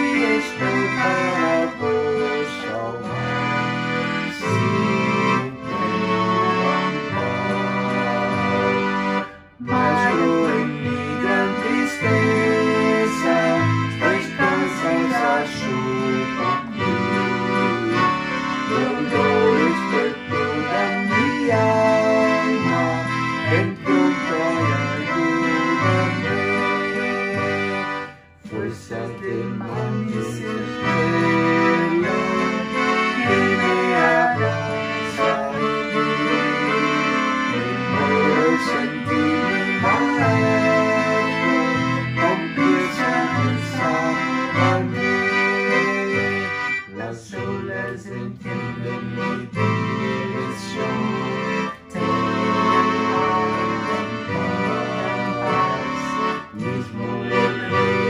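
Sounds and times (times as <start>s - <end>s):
hymn with keyboard accompaniment: 0.0s - 58.0s.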